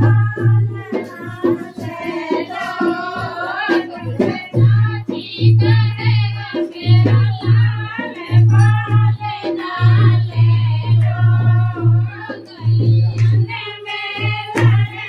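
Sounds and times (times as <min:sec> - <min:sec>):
rhythmic beat: 0:00.0 - 0:15.0
women singing: 0:00.0 - 0:15.0.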